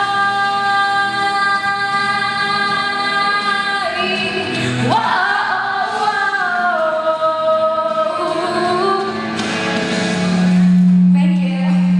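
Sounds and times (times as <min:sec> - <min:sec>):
backing music: 0:00.0 - 0:11.9.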